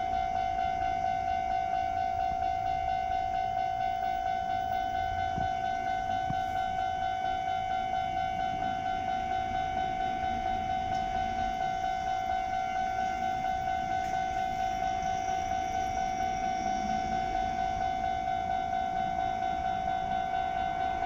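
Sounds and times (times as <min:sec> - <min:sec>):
level crossing alarm bell ringing: 0:00.0 - 0:21.0.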